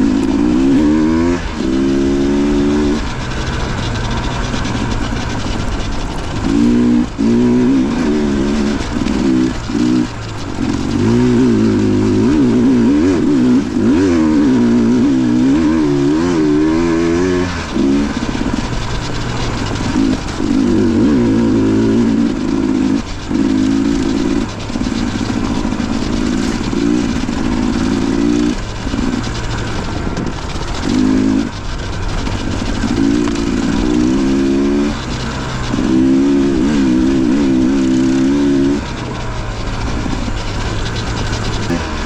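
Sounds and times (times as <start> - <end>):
dirt bike engine revving: 0.0 - 42.0
steady rush of noise: 0.0 - 42.0.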